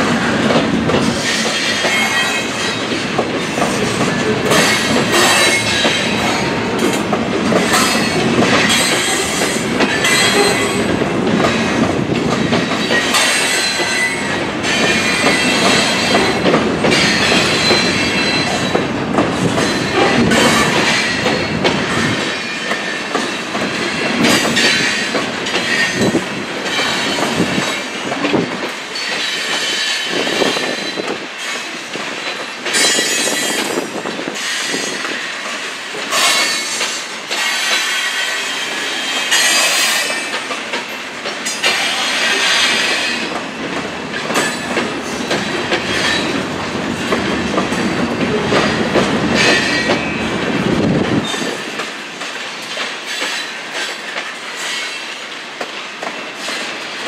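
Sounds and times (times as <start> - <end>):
deep train rumble: 0.0 - 54.3
train wheels clacking over rail joints: 0.0 - 57.0.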